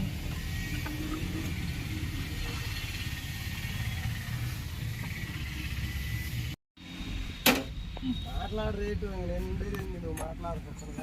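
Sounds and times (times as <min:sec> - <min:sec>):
low mechanical rumble: 0:00.0 - 0:10.0.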